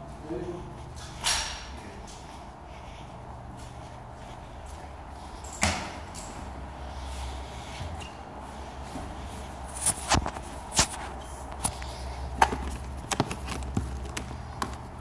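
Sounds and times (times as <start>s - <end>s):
footsteps on concrete floor: 0.0s - 15.0s
steady low hum: 0.0s - 15.0s.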